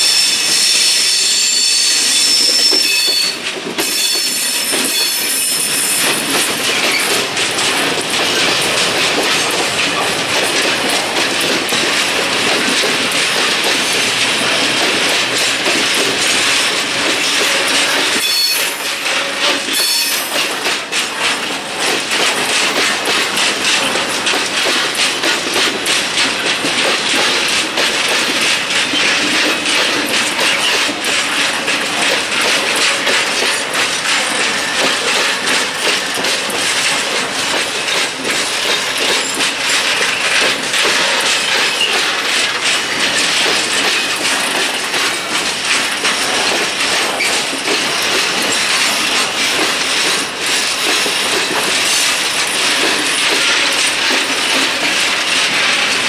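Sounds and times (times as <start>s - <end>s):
train wheels clattering over rail joints: 1.2s - 56.0s
freight wagons rumbling and rattling: 4.5s - 56.0s.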